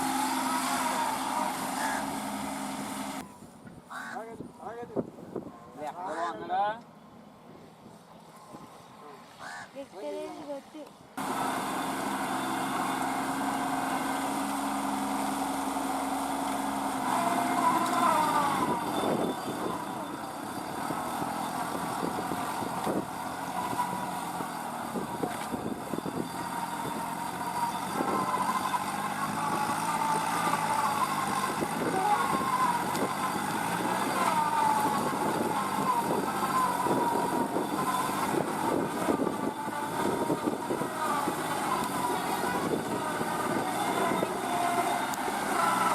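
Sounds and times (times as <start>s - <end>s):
tractor diesel engine running: 0.0s - 3.6s, 11.1s - 45.9s.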